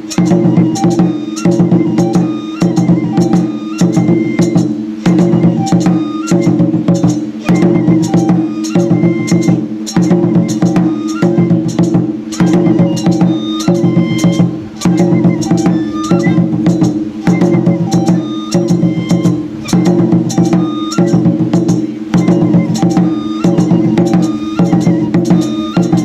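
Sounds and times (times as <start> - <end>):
drums and wooden percussion: 0.0 - 26.0
short high notes: 0.0 - 26.0.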